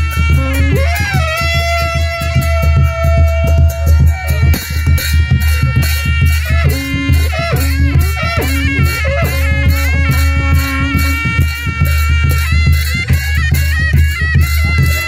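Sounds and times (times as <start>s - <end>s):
fast drum beat with heavy bass: 0.0s - 15.0s
reedy wind instrument melody: 0.0s - 15.0s.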